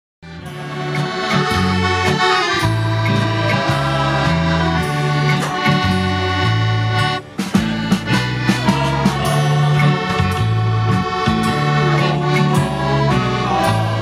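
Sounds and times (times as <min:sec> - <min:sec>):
accordion-led instrumental music: 0:00.2 - 0:14.0
stepping bass line: 0:00.3 - 0:14.0
sharp drum beats: 0:00.8 - 0:14.0.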